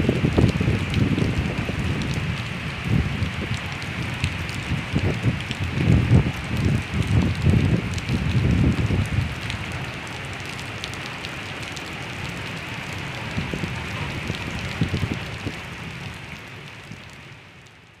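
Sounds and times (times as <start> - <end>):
heavy rain on standing water: 0.0 - 18.0.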